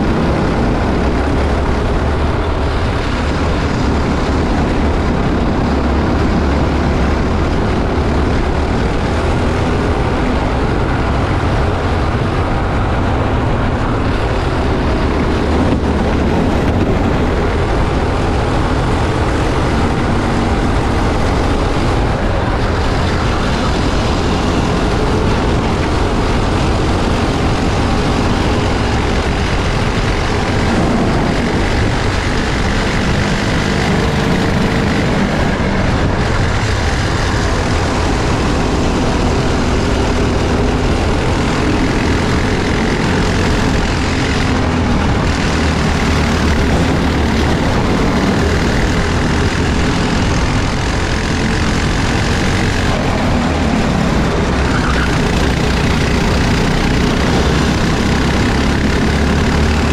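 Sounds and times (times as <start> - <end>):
kart engines racing: 0.0 - 59.9
wind and tyre noise: 0.0 - 59.9.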